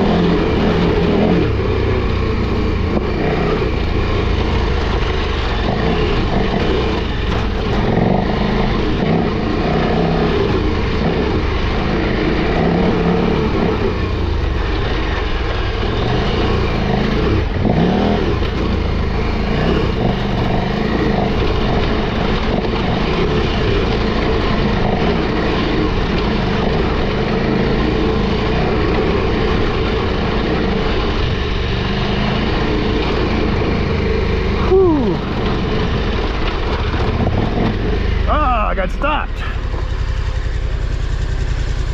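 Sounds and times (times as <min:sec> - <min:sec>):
motorcycle engine revving under load: 0:00.0 - 0:38.6.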